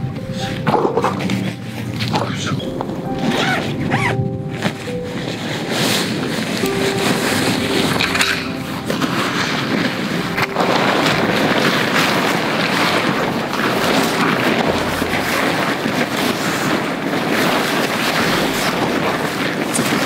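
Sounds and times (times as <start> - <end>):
tent fabric rustling and flapping: 0.0 - 20.0.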